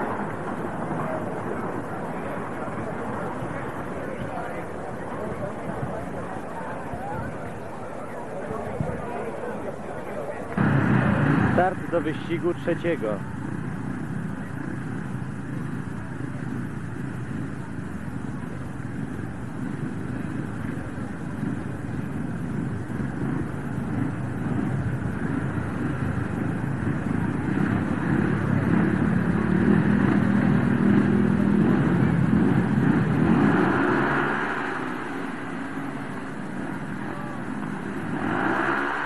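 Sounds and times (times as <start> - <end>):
motorcycle engines revving: 0.0 - 39.0.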